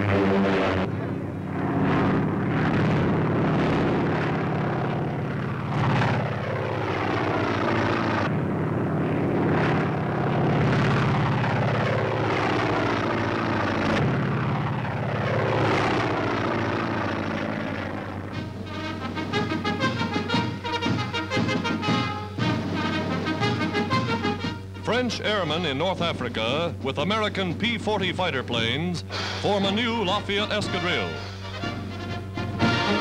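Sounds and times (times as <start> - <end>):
propeller planes passing low: 0.0 - 33.0.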